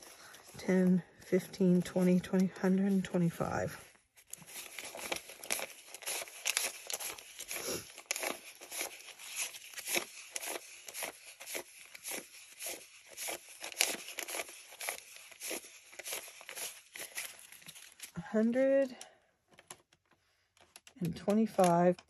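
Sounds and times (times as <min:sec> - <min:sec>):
paper bills counted by hand: 0:00.0 - 0:22.0.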